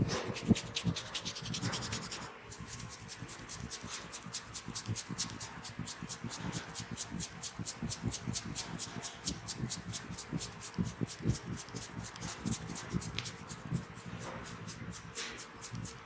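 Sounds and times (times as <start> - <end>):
hands rubbing hair: 0.0 - 16.0.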